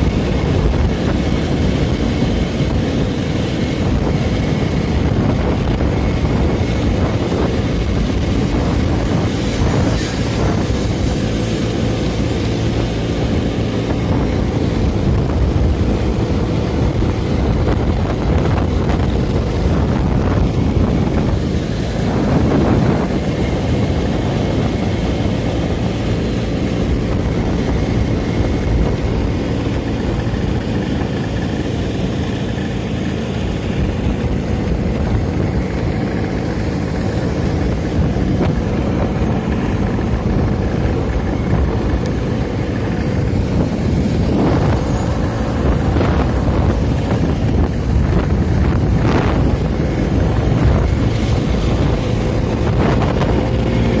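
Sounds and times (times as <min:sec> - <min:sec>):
scooter engine running: 0:00.0 - 0:54.0
wind buffeting microphone: 0:00.0 - 0:54.0.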